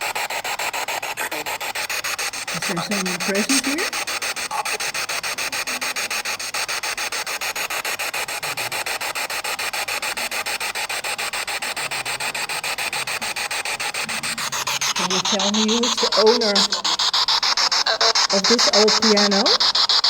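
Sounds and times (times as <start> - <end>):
pulsing radio static: 0.1 - 20.0.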